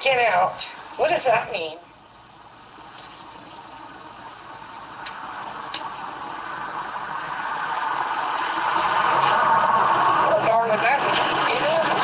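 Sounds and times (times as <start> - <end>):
vehicle engine and tyre noise: 1.9 - 12.0.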